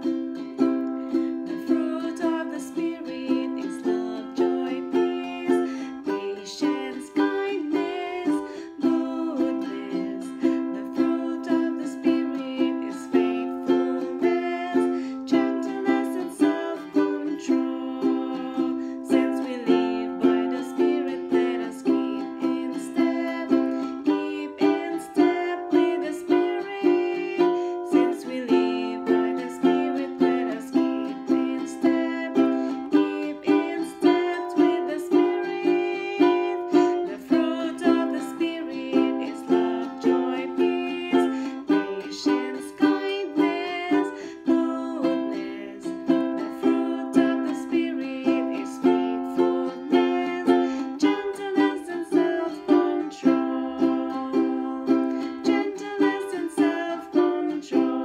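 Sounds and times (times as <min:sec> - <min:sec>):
ukulele strumming: 0:00.0 - 0:58.0
woman singing: 0:00.0 - 0:58.0.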